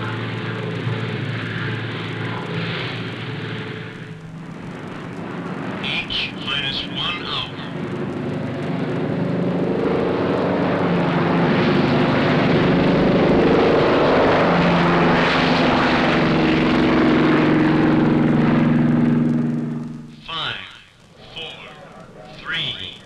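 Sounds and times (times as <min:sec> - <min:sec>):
propeller aircraft engine drone: 0:00.0 - 0:23.0.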